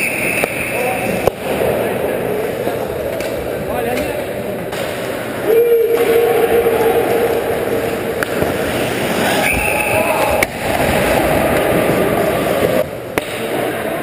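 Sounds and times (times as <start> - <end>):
ice rink noise: 0.0 - 14.0
players' voices: 0.0 - 14.0.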